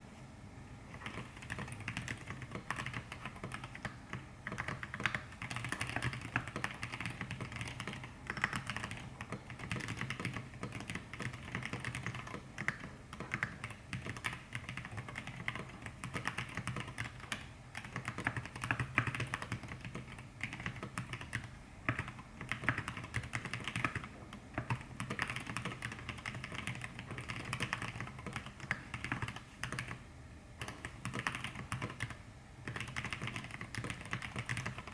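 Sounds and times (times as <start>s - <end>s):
fast typing on mechanical keyboard: 0.9s - 30.0s, 30.6s - 34.9s.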